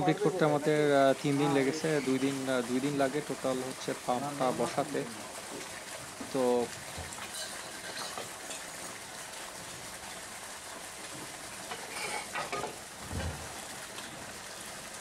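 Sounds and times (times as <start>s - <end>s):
water splashing from pump pipe: 0.0s - 15.0s.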